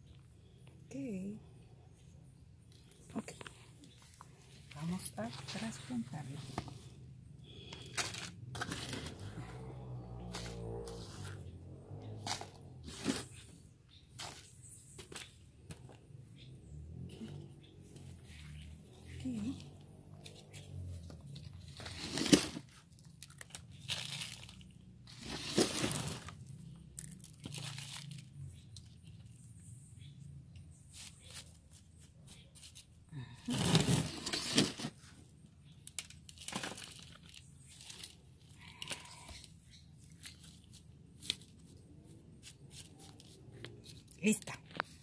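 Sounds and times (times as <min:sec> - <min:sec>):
soil rustling and crunching: 0:02.9 - 0:16.0, 0:17.7 - 0:29.2, 0:30.8 - 0:45.0.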